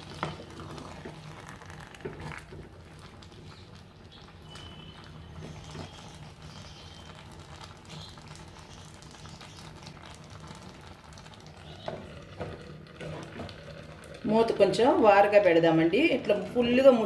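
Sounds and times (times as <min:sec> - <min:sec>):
wooden spatula scraping pot: 0:00.0 - 0:10.7, 0:11.6 - 0:15.2.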